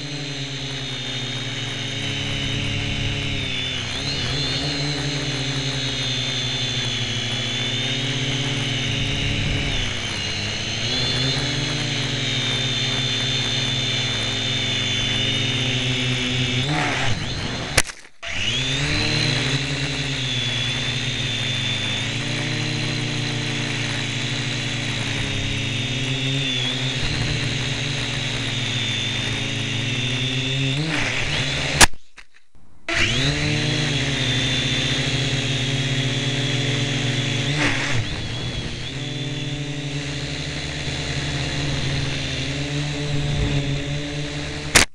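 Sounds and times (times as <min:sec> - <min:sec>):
quadcopter motors whining: 0:00.0 - 0:32.2, 0:32.8 - 0:44.9.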